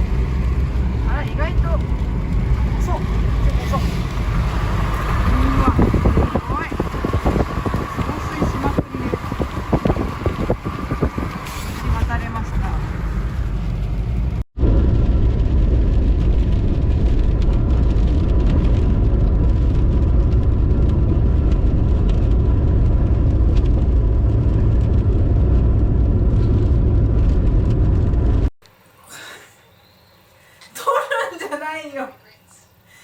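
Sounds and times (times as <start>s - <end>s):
car engine and tyres on wet road: 0.0s - 28.5s
heavy rain: 0.0s - 28.5s.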